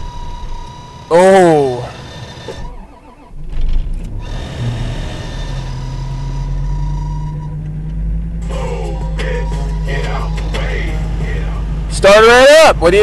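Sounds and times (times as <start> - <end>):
car engine cranking and starting: 0.0 - 13.0
car engine idling: 0.0 - 13.0.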